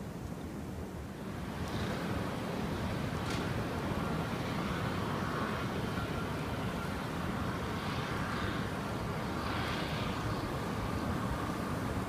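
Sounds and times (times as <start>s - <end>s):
blizzard wind on microphone: 0.0s - 12.0s
distant engine hum: 0.0s - 12.0s.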